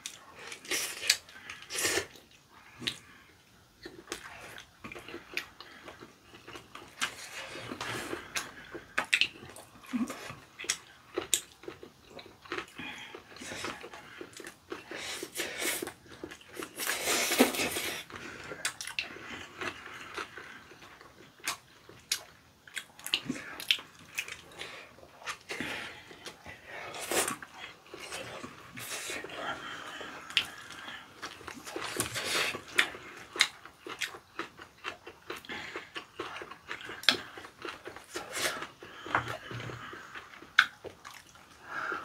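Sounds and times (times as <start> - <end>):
wet chewing: 3.8 - 42.0.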